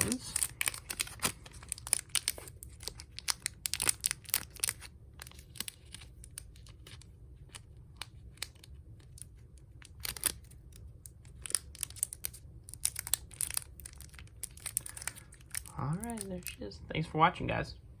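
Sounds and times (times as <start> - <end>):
crinkling handling noise: 0.0 - 16.7.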